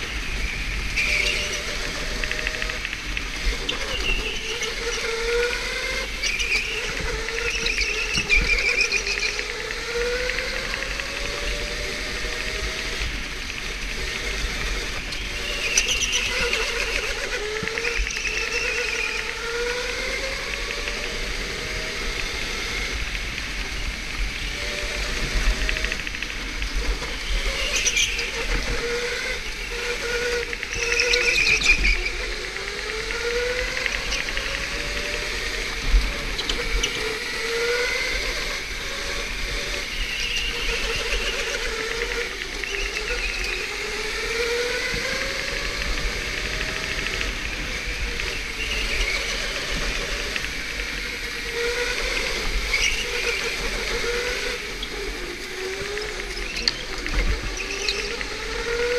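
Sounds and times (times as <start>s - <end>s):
electric go-kart motor whining: 0.0s - 58.9s.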